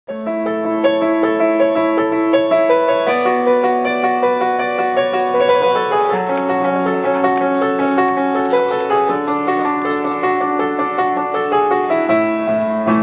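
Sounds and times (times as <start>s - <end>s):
piano melody: 0.1s - 13.0s.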